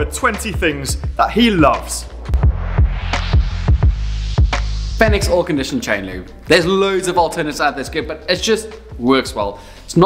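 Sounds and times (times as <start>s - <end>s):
deep bass line: 0.0s - 8.3s
thumping beat: 0.0s - 9.2s.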